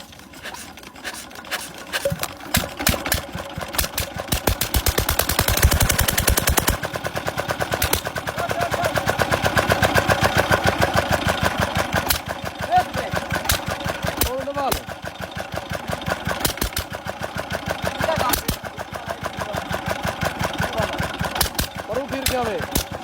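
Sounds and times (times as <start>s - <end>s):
diesel engine starting and running: 0.0s - 23.0s.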